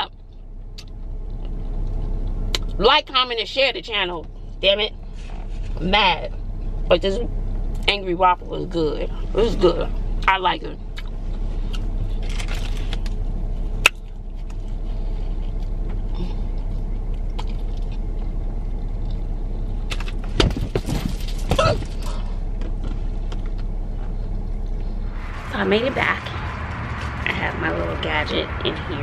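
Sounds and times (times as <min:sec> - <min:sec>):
car cabin rumble: 0:00.0 - 0:29.0.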